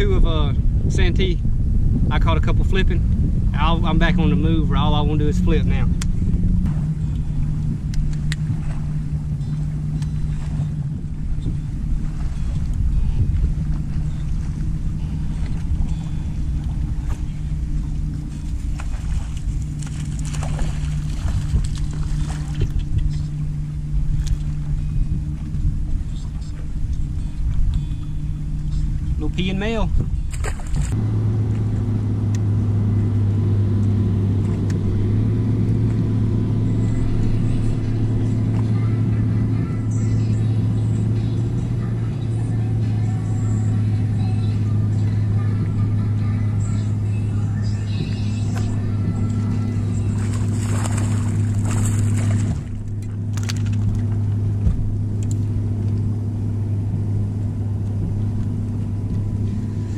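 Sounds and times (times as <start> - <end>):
trolling motor humming: 0.0 - 59.9.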